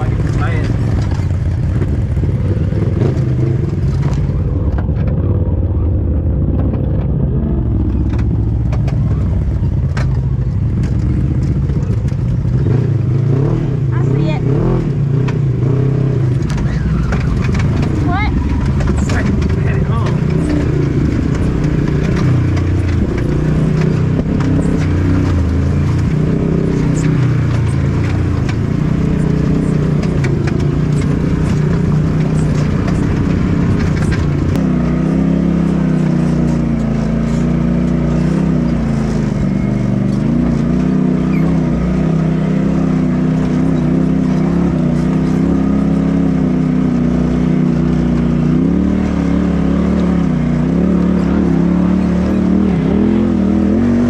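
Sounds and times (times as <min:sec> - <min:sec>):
lower side-by-side engine: 0:00.0 - 0:54.0
side-by-side engine revving: 0:00.0 - 0:54.0.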